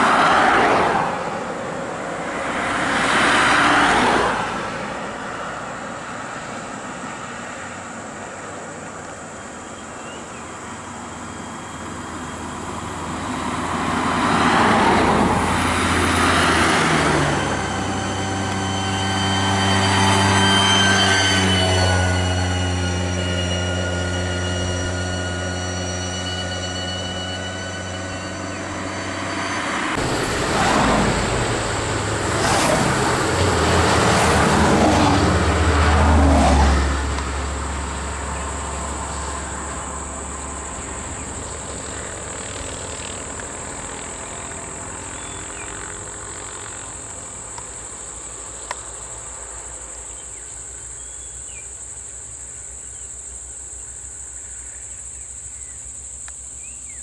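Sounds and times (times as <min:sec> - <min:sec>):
vehicle engine rumble: 0:00.0 - 0:57.0
high-pitched insect drone: 0:09.2 - 0:57.0.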